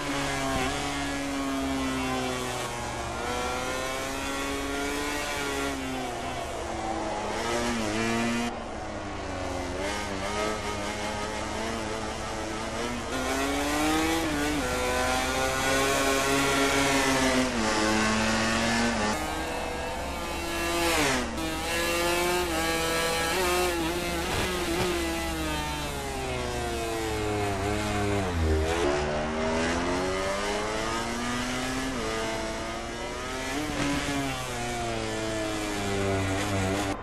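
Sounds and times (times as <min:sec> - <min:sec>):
racing motorcycle engines: 0:00.0 - 0:37.0.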